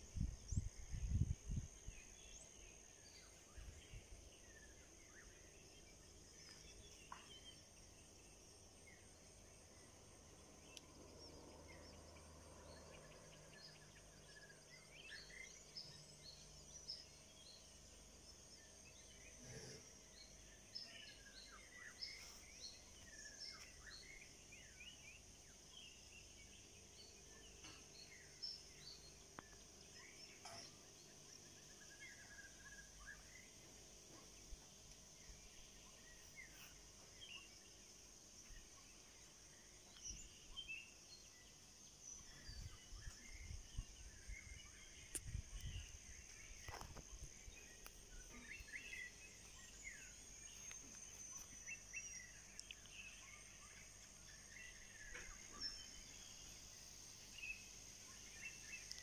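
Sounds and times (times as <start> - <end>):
bird chirps: 0.0 - 59.0.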